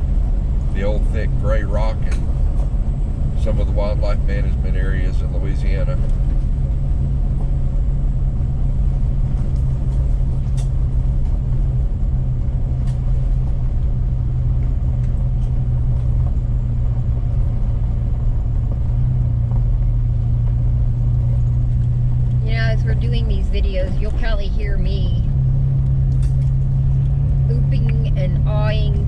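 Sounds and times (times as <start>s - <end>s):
truck engine and tyres rumbling: 0.0s - 29.0s.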